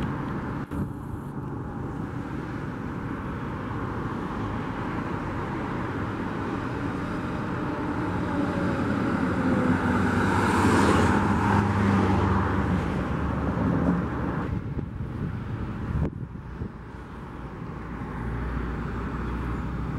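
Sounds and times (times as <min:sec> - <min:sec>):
cars and trucks passing: 0:00.0 - 0:19.9
low engine hum: 0:00.0 - 0:19.9.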